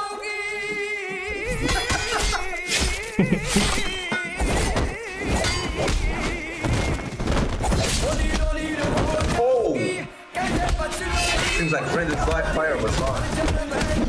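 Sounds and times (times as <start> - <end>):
song with wavering vocals: 0.0 - 14.0.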